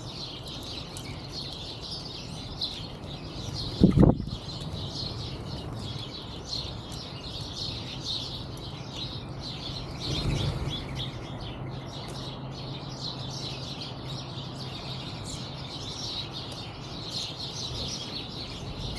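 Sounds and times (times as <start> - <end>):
songbirds chirping and twittering: 0.0 - 18.9.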